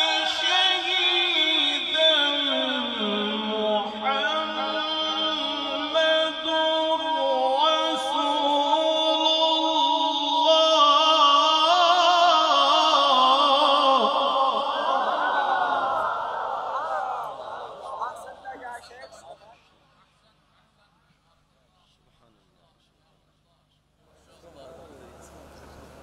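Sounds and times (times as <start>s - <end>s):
man reciting in melodic chant: 0.0s - 15.8s, 17.3s - 25.4s.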